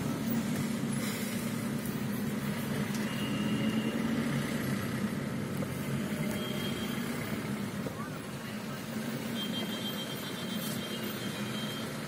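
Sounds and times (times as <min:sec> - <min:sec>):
slow-moving traffic: 0:00.0 - 0:12.0.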